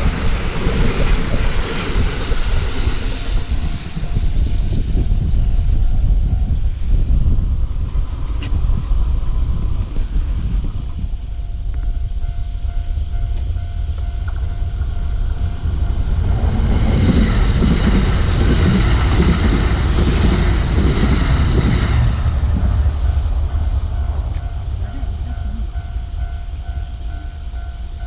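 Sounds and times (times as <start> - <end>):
electric train running: 0.0 - 28.0
wind rumble on microphone: 0.0 - 28.0.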